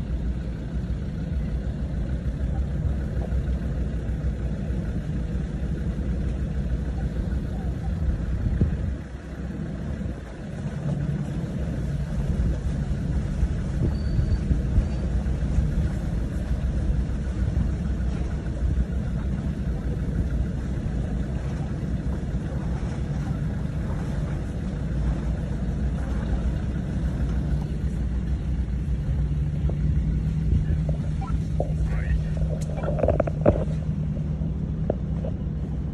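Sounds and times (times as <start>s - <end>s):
vehicle engine low rumble: 0.0s - 35.9s.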